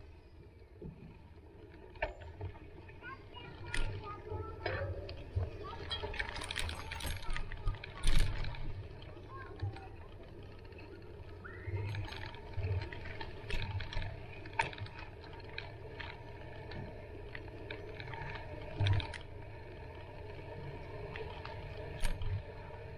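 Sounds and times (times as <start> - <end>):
bicycle tyres on dirt path: 0.0 - 22.9
bicycle clicks and rattles: 0.8 - 22.9.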